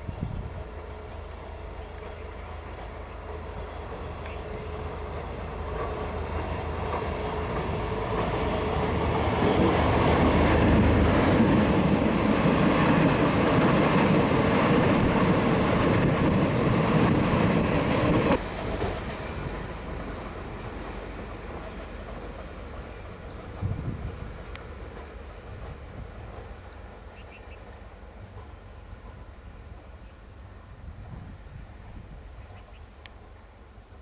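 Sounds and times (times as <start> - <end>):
distant train running: 0.0 - 34.0
train rumble and wheels on rails: 0.0 - 34.0.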